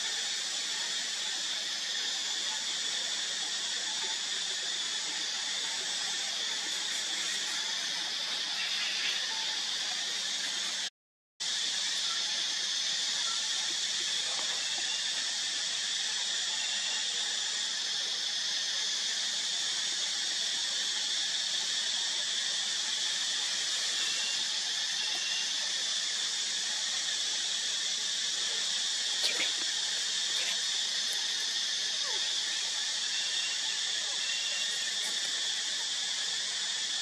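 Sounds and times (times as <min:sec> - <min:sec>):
insect chorus drone: 0:00.0 - 0:37.0.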